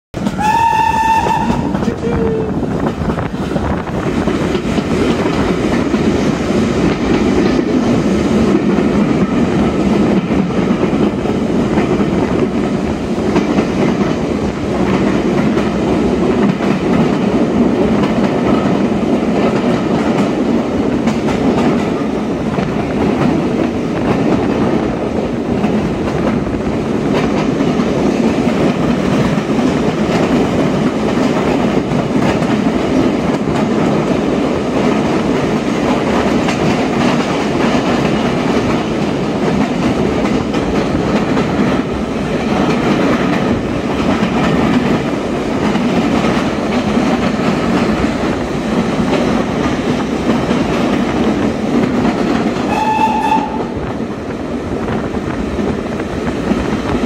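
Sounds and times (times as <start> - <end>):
train wheels rumbling on rail: 0.1 - 57.0.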